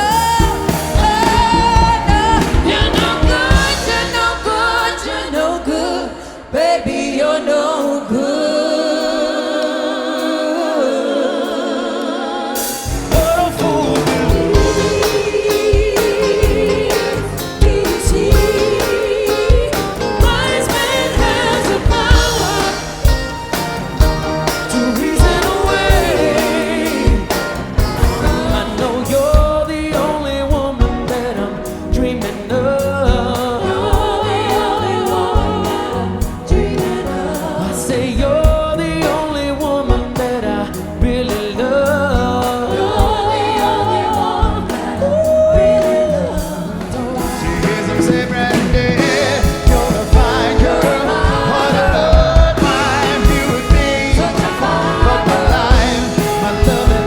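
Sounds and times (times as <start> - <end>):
soft rock song: 0.0 - 8.3, 12.6 - 57.0
lead vocal with harmonies: 0.0 - 57.0.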